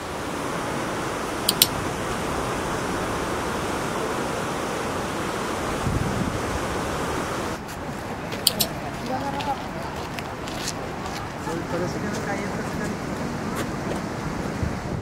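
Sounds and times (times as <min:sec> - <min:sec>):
river rapids roaring: 0:00.0 - 0:15.0.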